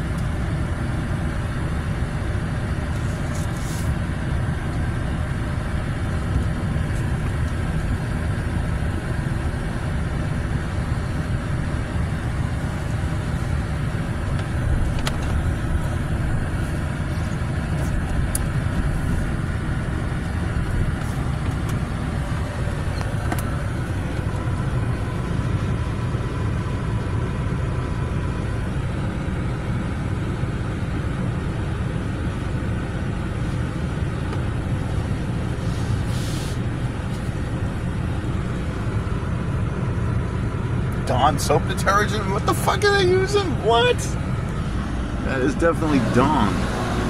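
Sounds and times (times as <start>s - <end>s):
car wash low rumble: 0.0s - 47.0s.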